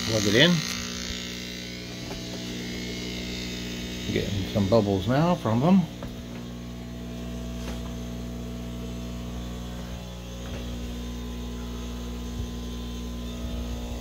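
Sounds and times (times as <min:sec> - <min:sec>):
air pump humming: 0:00.0 - 0:14.0.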